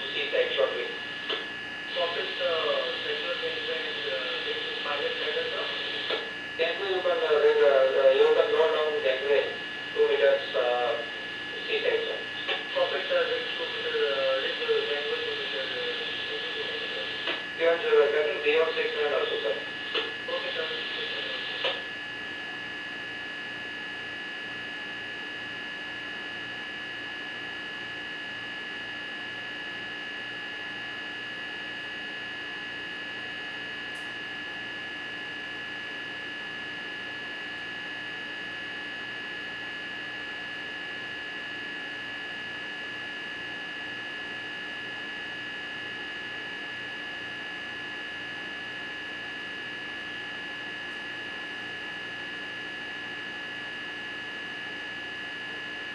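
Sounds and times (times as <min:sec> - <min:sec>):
hum with high whine: 0:00.0 - 0:55.9.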